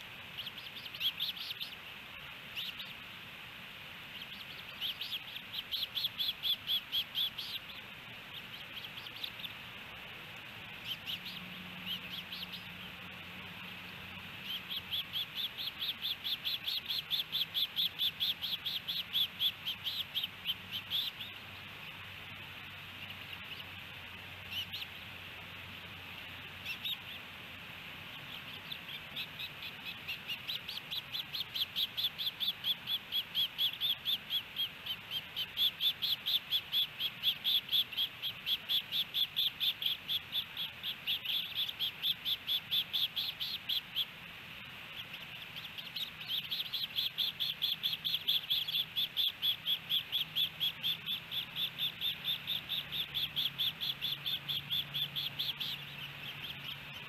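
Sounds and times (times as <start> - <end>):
osprey chirping: 0.0 - 3.3, 3.9 - 57.0.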